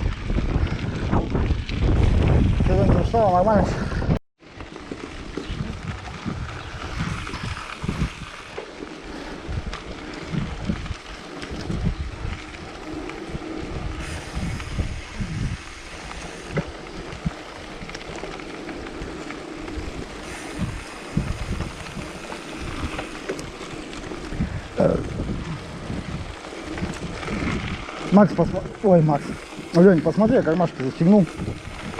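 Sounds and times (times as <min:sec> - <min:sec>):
wind buffeting microphone: 0:00.0 - 0:04.2, 0:05.0 - 0:31.9.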